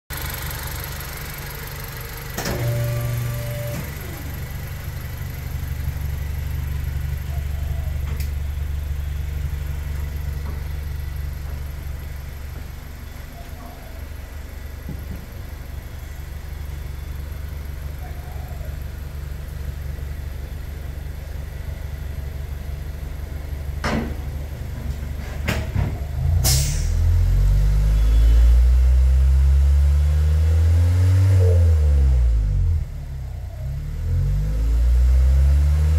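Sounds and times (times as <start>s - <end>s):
car engine idling and revving: 0.1s - 35.9s.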